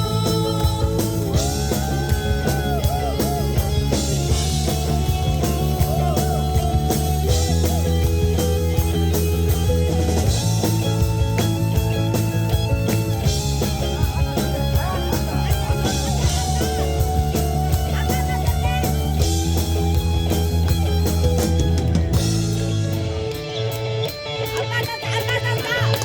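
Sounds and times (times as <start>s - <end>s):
bending lead line: 0.0s - 26.0s
drum kit beat: 0.0s - 26.0s
live rock band playing: 0.0s - 26.0s.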